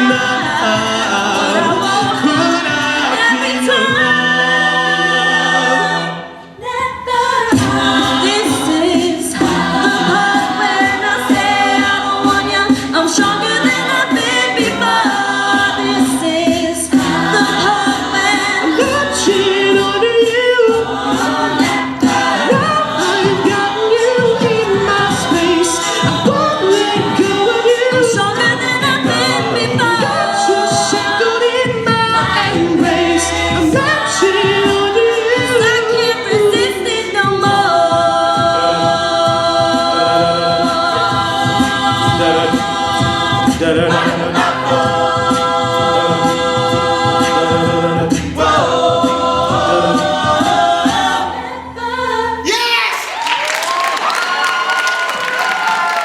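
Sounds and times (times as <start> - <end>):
a cappella group singing: 0.0 - 52.6.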